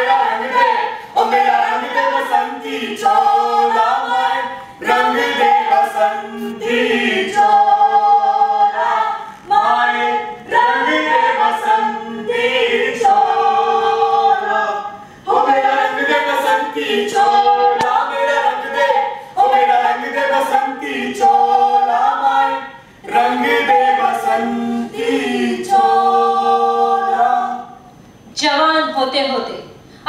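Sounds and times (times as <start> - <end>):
group singing a cappella: 0.0 - 28.3.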